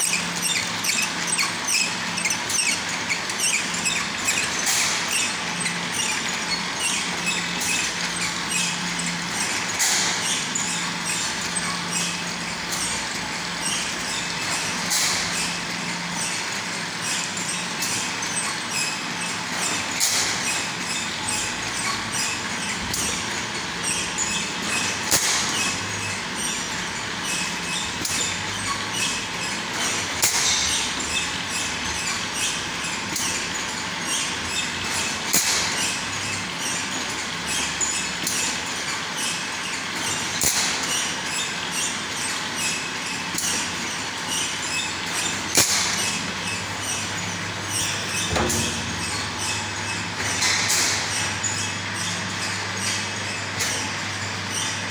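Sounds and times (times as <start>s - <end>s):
machine mechanical clatter: 0.0s - 54.9s.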